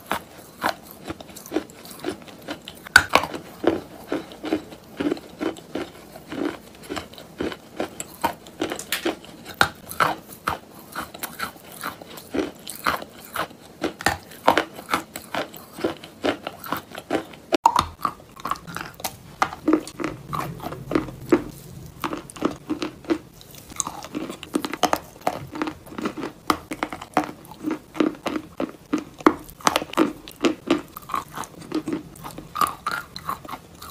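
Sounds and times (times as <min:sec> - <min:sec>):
crunchy chewing of dry clay: 0:00.0 - 0:33.9.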